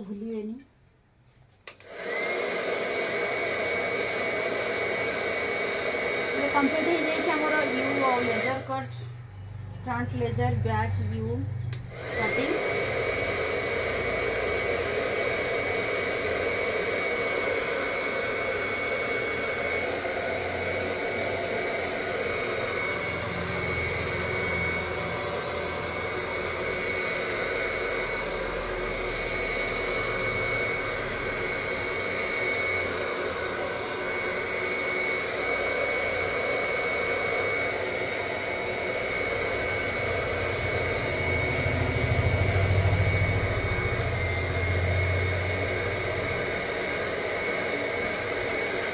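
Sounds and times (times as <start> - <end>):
hair dryer whining: 1.6 - 48.9.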